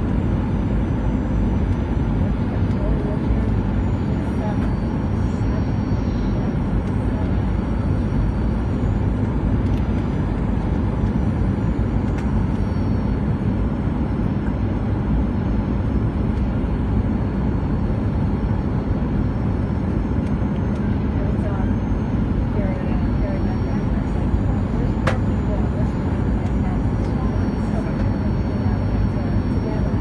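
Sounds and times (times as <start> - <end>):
airliner engines and rushing air: 0.0 - 30.0.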